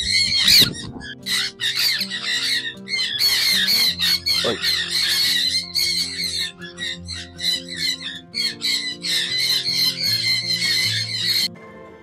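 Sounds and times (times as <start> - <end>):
parrots screeching: 0.0 - 11.5
background music with held notes: 0.0 - 12.0.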